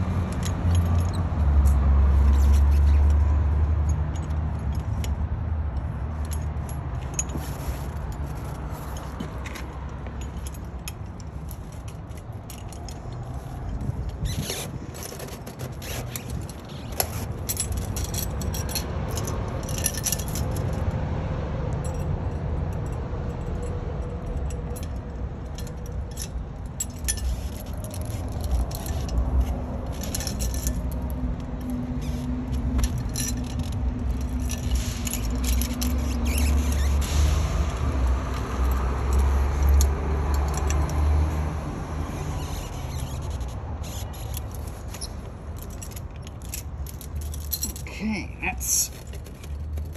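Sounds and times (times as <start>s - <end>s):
steel chain links clinking: 0.0s - 20.9s, 21.8s - 49.9s.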